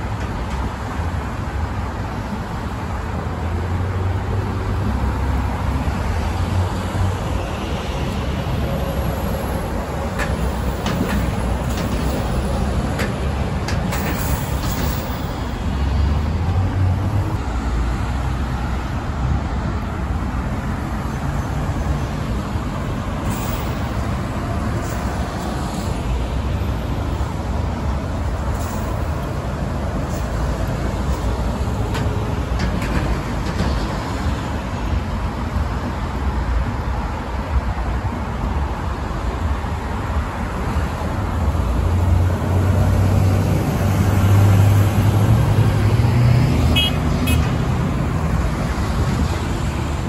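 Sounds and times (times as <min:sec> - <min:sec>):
bus diesel engines rumbling: 0:00.0 - 0:50.0.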